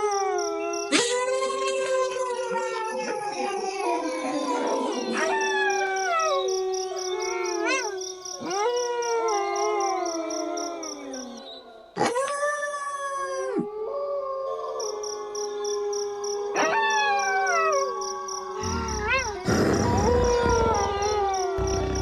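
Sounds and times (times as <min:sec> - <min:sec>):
wolves howling: 0:02.2 - 0:22.0.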